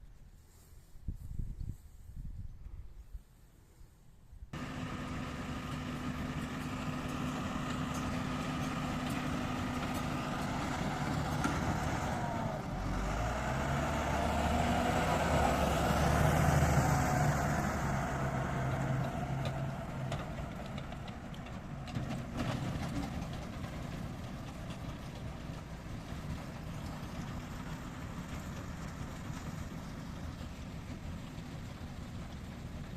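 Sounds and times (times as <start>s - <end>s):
tractor engine running: 4.6s - 32.9s.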